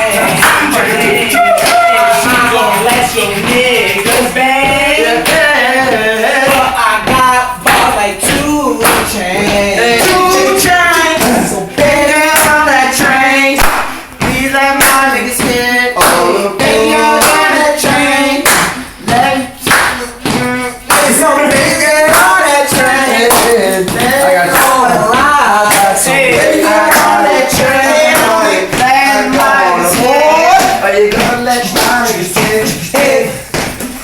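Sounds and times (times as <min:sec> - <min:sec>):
person singing: 0:00.0 - 0:34.0
rhythmic hand claps: 0:00.0 - 0:34.0.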